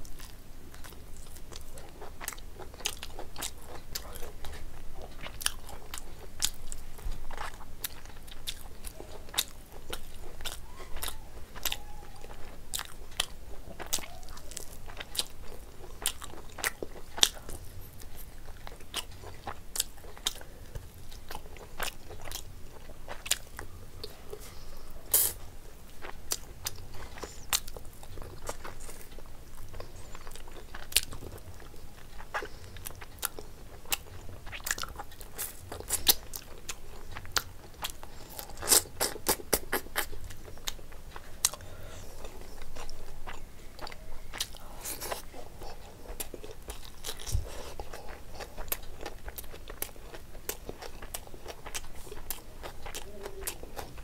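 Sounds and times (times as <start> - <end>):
person chewing with mouth clicks: 0.0 - 54.0.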